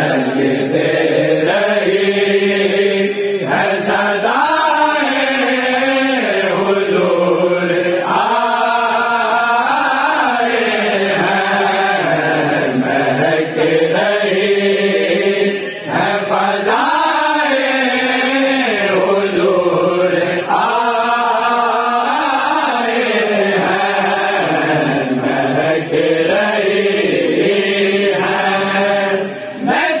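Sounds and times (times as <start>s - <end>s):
men singing devotional chant: 0.0s - 30.0s.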